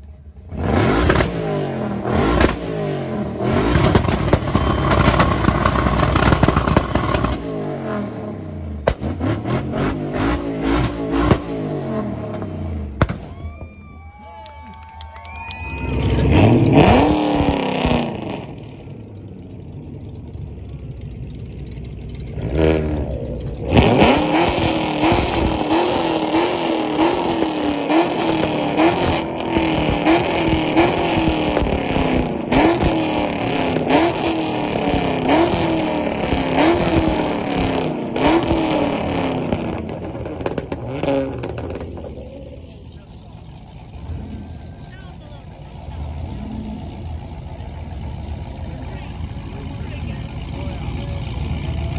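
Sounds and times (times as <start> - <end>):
car engine revving: 0.0 - 13.4, 15.6 - 51.9.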